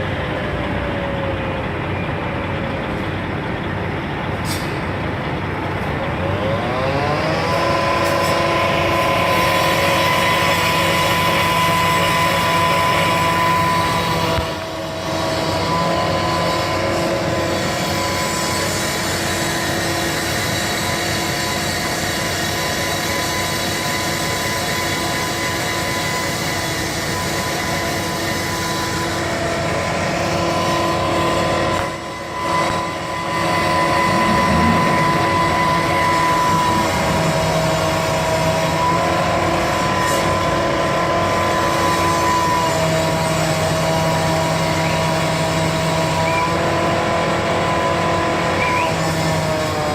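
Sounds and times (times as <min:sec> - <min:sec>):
machine running with whine and hum: 0:00.0 - 0:49.9.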